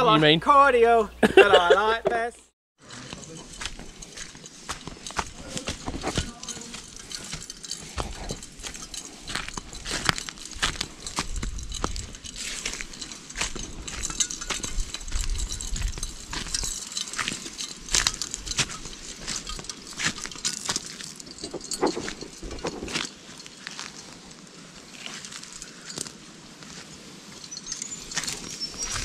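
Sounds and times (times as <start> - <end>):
footsteps crunching dry leaves: 2.8 - 29.0.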